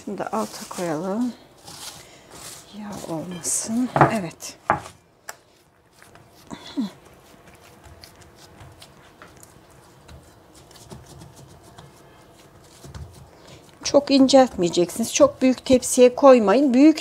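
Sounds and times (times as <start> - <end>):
hands patting dough: 0.0 - 16.9.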